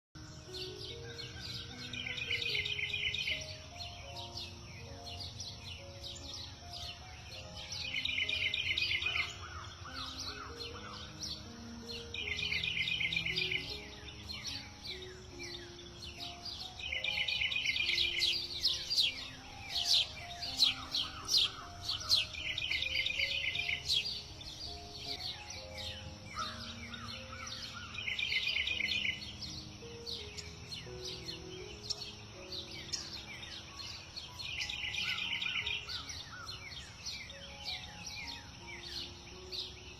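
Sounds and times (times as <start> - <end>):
soft low melodic notes: 0.2 - 39.9
songbirds chirping: 0.2 - 39.9.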